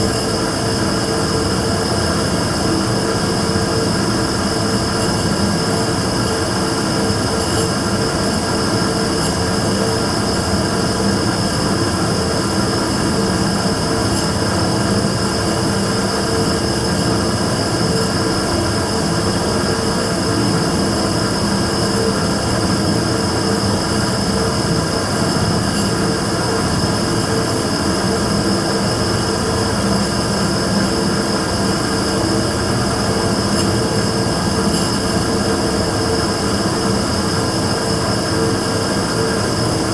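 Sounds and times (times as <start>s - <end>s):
burner droning with high whine: 0.0s - 39.9s.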